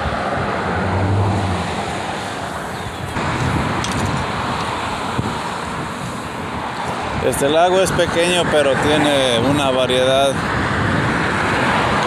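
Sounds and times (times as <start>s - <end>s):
road traffic noise: 0.0s - 12.0s
wind buffeting microphone: 0.0s - 12.0s.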